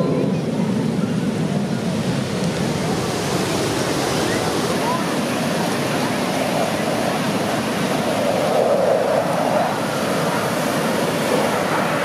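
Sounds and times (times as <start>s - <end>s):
ocean surf breaking on shore: 0.0s - 12.0s.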